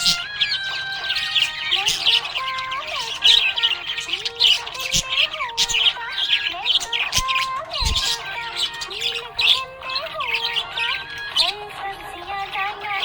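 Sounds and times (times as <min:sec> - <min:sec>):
background music: 0:00.0 - 0:13.0
budgerigars chirping and warbling: 0:00.0 - 0:13.0.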